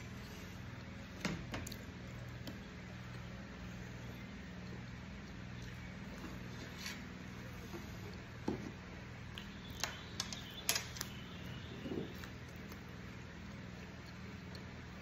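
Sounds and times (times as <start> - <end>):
steady low hum: 0.0 - 15.0
person chewing food: 0.1 - 10.0, 11.4 - 15.0.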